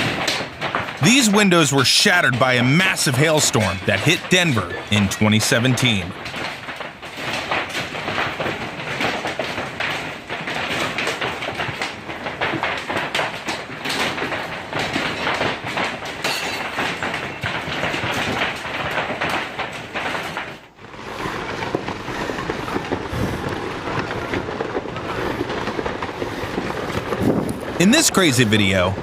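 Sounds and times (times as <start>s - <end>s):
heavy hail clattering: 0.0s - 29.0s.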